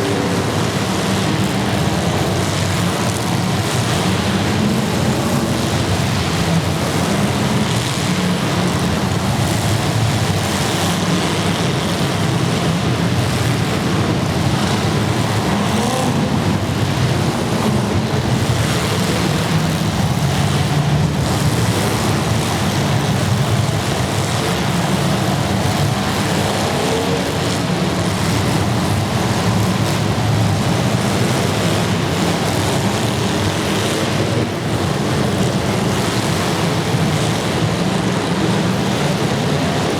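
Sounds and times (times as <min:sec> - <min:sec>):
engine revs: 0:00.0 - 0:39.9
unmuffled car engines running: 0:00.0 - 0:39.9.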